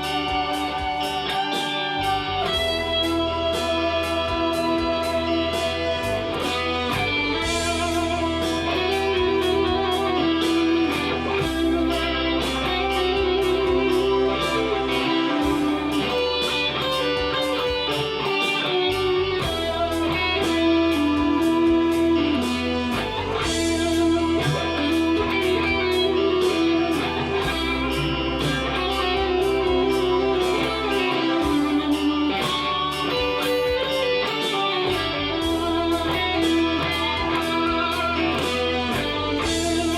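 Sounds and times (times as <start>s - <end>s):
backing track with bass and drums: 0.0s - 39.9s
electric guitar lead lines: 0.0s - 39.9s.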